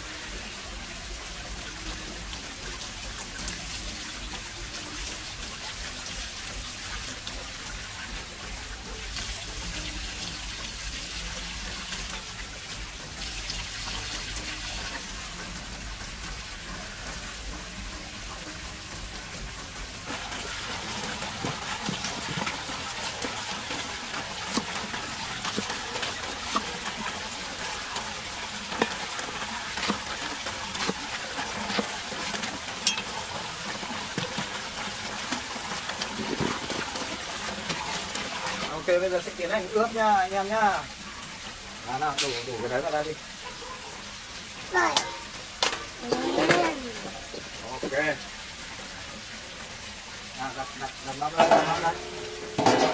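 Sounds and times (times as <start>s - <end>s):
running water splashing: 0.0s - 52.9s.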